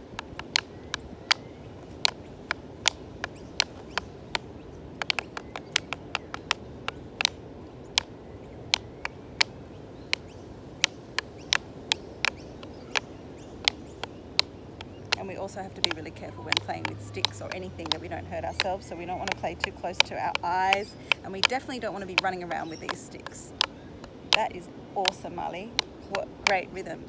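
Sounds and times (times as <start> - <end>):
wooden sticks clacking: 0.0 - 7.4, 8.7 - 26.8.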